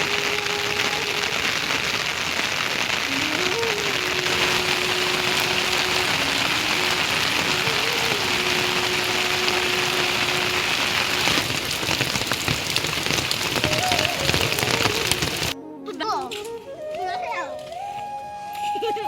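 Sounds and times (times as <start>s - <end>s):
heavy rain: 0.0s - 15.6s.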